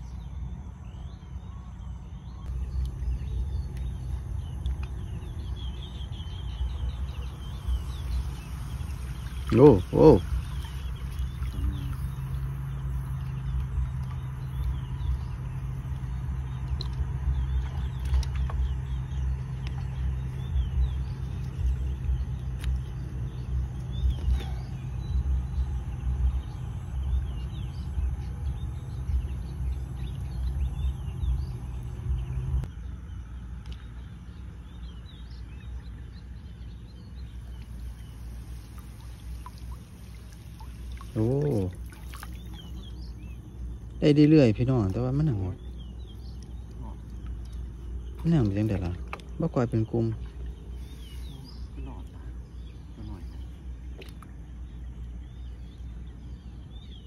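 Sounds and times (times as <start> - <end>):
birds chirping: 0.0 - 57.0
steady low hum: 0.0 - 57.0
wind rumbling on microphone: 0.0 - 57.0.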